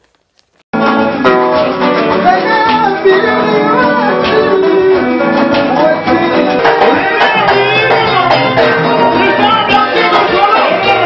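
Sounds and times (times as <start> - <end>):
band music with guitar: 0.8 - 11.0
person singing: 0.8 - 11.0.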